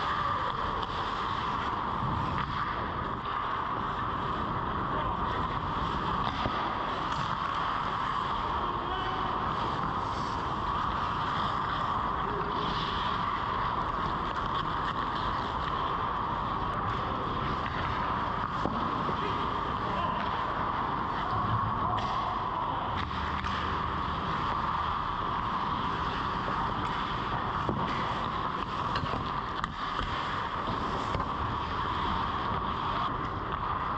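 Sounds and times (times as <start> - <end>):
indoor ice rink drone: 0.0 - 33.9
skates and sticks scraping ice: 0.0 - 33.9.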